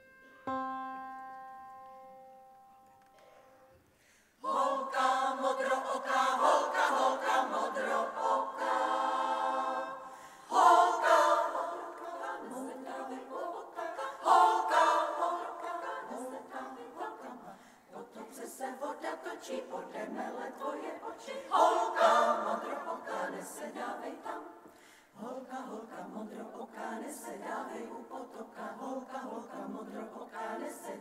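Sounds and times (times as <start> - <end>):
women's choir singing a cappella: 4.4 - 31.0.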